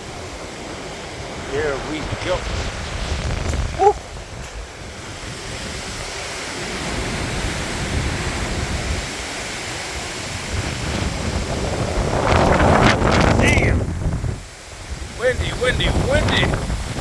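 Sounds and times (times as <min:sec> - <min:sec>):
strong gusty wind: 0:00.0 - 0:17.0.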